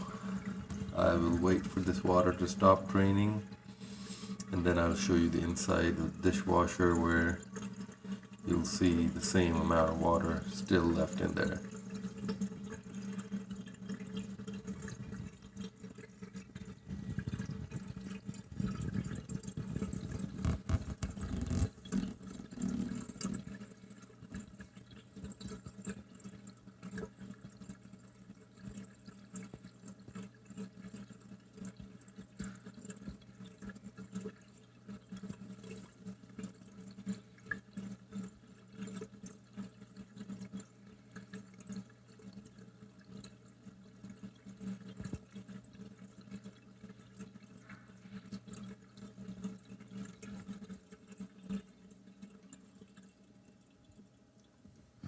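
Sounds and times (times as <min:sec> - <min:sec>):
drain pump humming: 0:00.0 - 0:55.0
water splashing from drain: 0:00.0 - 0:55.0.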